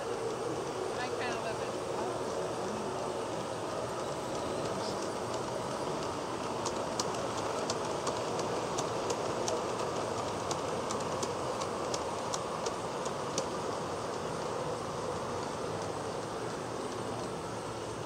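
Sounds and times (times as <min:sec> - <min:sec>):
model train running hum: 0:00.0 - 0:18.0
wheels clicking over rail joints: 0:00.0 - 0:18.0.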